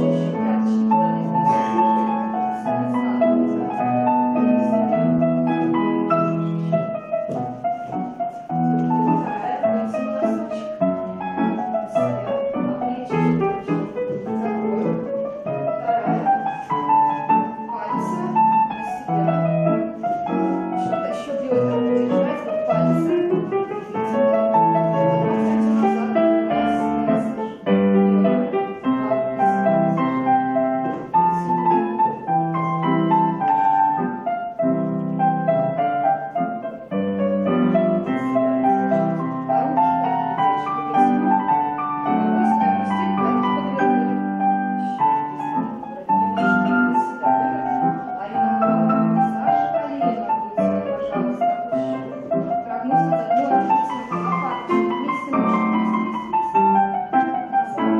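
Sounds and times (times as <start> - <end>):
slow classical piano music: 0.0 - 57.9.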